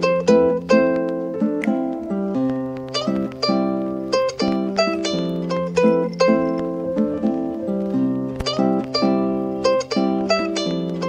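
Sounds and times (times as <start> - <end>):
plucked string instrument tune: 0.0 - 11.0.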